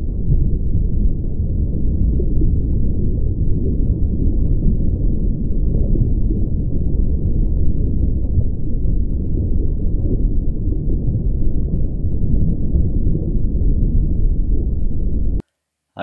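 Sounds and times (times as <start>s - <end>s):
deep rumble: 0.0s - 15.4s.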